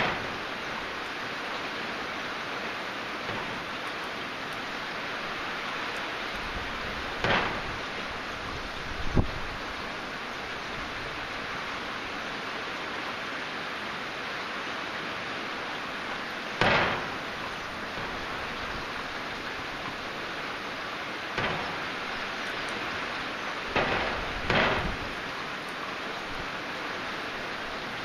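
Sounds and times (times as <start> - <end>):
heavy rain on roof and trees: 0.0 - 28.0.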